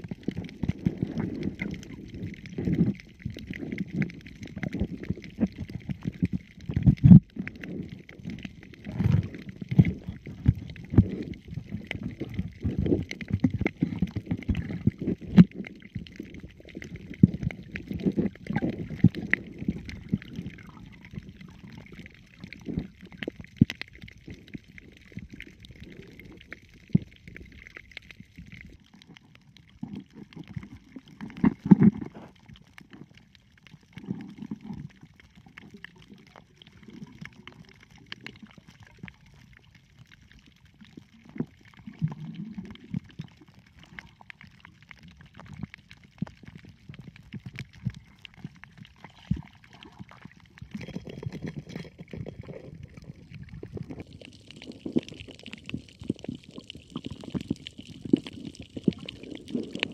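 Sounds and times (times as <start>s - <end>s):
sharp clicks and crackles: 0.0s - 59.9s
water sloshing and rumbling: 0.0s - 59.9s.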